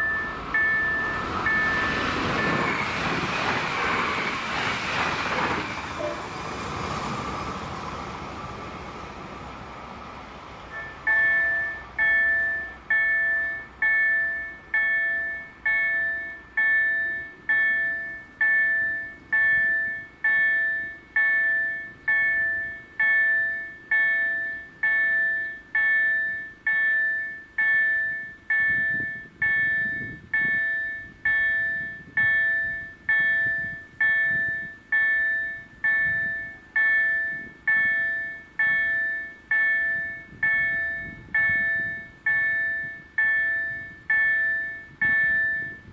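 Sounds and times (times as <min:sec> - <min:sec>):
level crossing warning bell: 0:00.0 - 0:03.2, 0:10.7 - 0:45.9.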